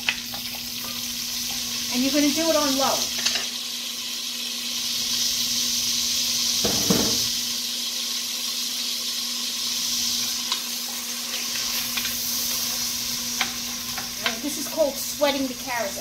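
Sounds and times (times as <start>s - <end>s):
oil sizzling and spattering: 0.0s - 16.0s.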